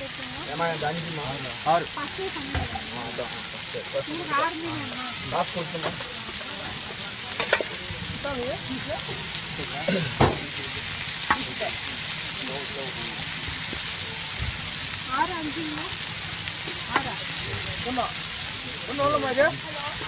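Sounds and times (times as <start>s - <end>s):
fish sizzling on a griddle: 0.0s - 20.0s.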